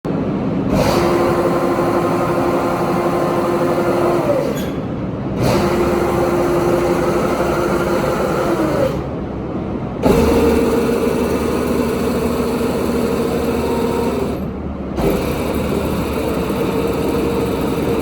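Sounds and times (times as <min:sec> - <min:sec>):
constant mechanical hum: 0:00.0 - 0:18.0.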